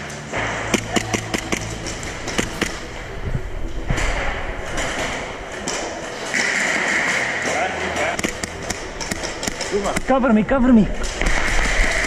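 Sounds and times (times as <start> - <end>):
noisy background: 0.0 - 12.0.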